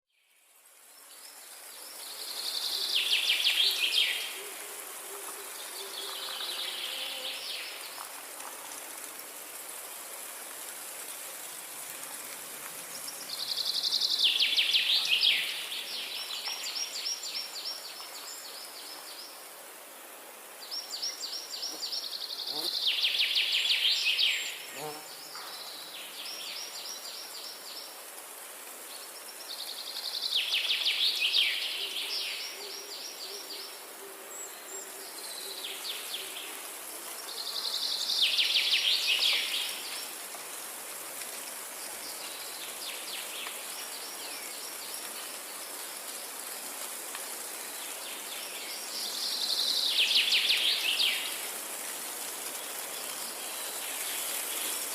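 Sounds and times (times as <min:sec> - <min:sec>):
high hiss of forest ambience: 0:00.1 - 0:54.9.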